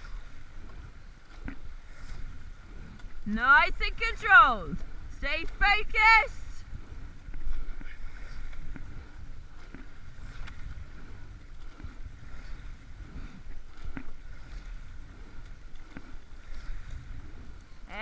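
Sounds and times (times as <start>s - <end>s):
water washing along boat hull: 0.0s - 18.0s
wind on microphone: 0.0s - 18.0s.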